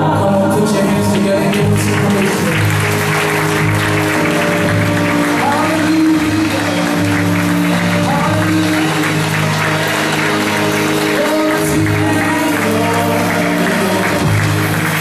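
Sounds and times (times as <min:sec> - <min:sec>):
church worship music: 0:00.0 - 0:15.0
congregation applauding: 0:01.2 - 0:15.0.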